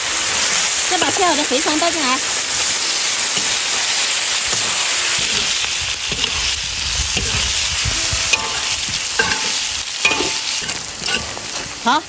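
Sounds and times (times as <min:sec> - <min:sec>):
food sizzling in oil: 0:00.0 - 0:12.0
metal spatula scraping wok: 0:01.0 - 0:12.0.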